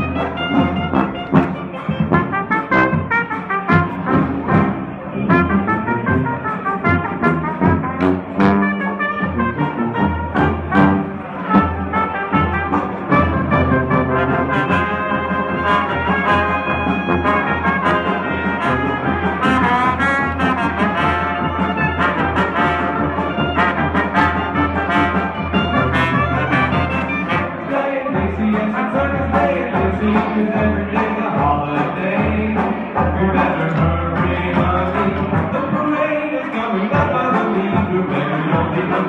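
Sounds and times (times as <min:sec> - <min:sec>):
jazz band playing: 0:00.0 - 0:36.2.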